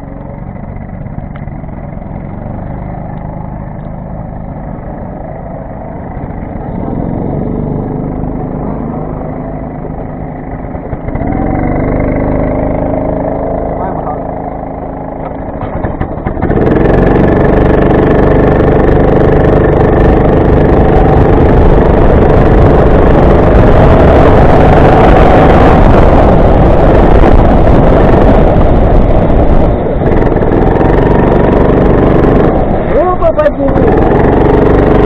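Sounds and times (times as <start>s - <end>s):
kart engine running hard: 0.0s - 35.0s
rushing wind noise: 0.0s - 35.0s.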